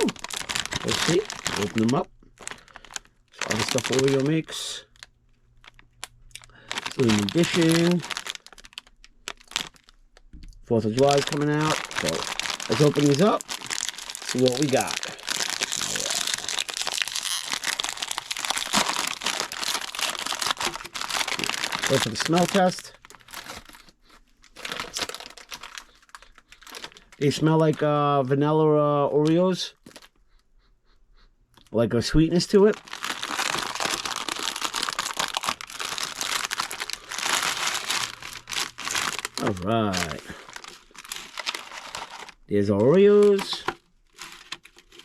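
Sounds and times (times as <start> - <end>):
plastic packaging crinkling: 0.0 - 28.0, 29.1 - 30.2, 32.5 - 45.0.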